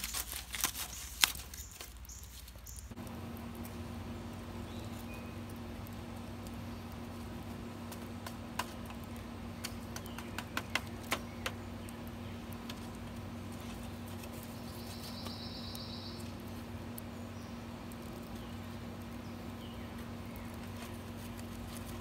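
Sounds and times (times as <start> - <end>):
low hum: 2.8 - 22.0.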